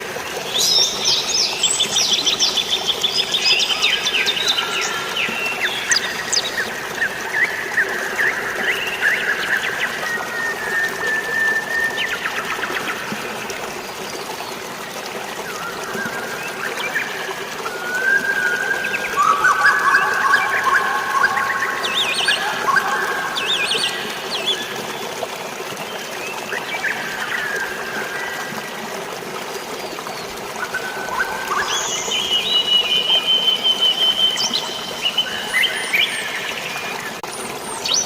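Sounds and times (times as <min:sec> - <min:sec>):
rushing water: 0:00.0 - 0:38.0.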